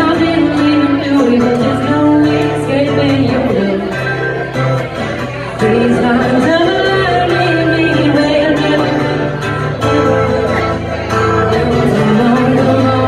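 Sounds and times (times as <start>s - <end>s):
woman singing: 0.0s - 4.4s, 5.5s - 13.0s
strummed acoustic guitar: 0.0s - 13.0s.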